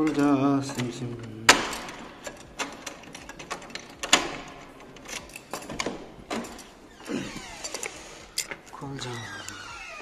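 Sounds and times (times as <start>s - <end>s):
door unlocking clicks and knocks: 0.0s - 10.0s.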